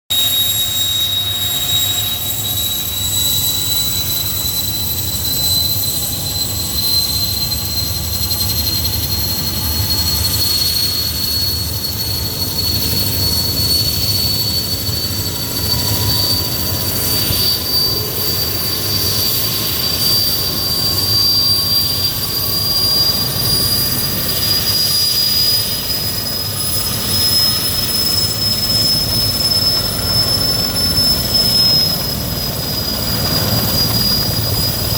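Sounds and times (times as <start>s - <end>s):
helicopter turbine whine: 0.1s - 34.9s.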